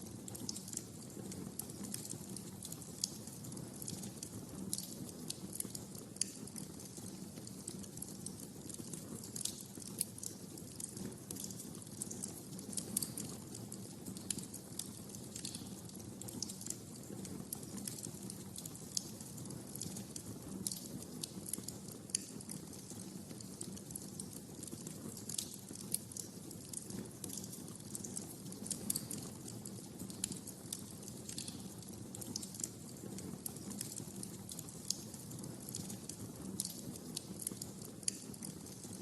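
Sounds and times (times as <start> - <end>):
low rumble of burning logs: 0.0 - 39.0
wood fire crackling and popping: 0.0 - 39.0.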